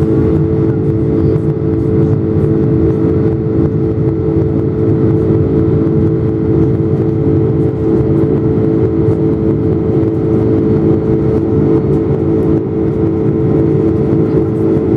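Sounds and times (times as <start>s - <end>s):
constant low hum: 0.0s - 14.9s
jet engines droning: 0.0s - 14.9s.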